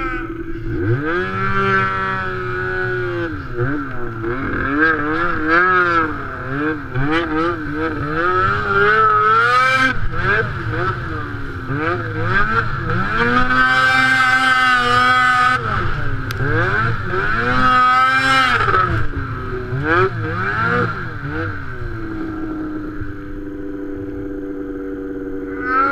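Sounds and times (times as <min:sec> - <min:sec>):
snowmobile engine revving: 0:00.0 - 0:25.9.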